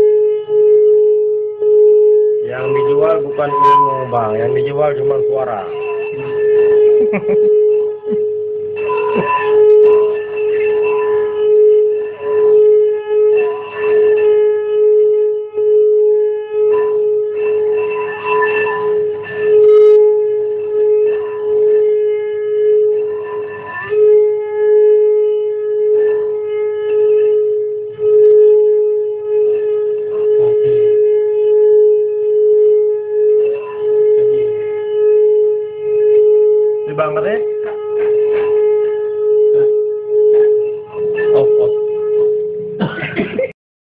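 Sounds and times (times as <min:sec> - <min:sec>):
wok humming like a horn: 0:00.0 - 0:42.9.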